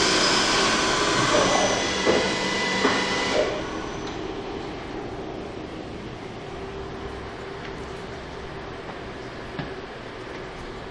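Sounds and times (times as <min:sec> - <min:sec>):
machine tool humming: 0:00.0 - 0:10.2.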